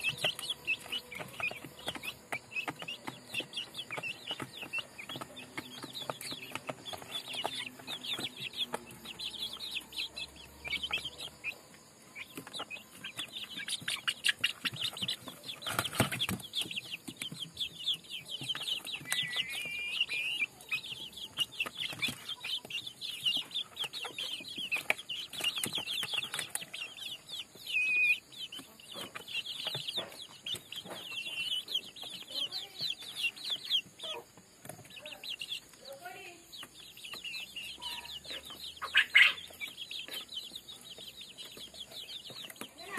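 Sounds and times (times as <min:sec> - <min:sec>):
chicks peeping and chirping: 0:00.0 - 0:42.9.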